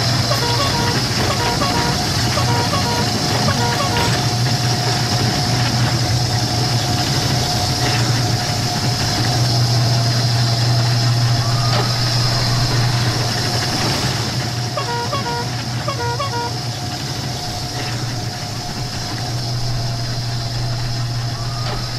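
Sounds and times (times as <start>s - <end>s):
machine humming with faint whine: 0.0s - 21.9s.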